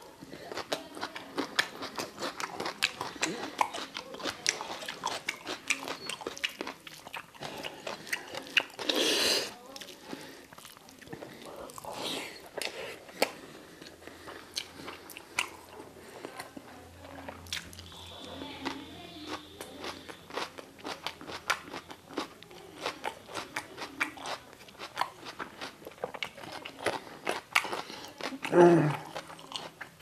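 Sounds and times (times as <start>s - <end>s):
crunchy chewing: 0.0s - 30.0s.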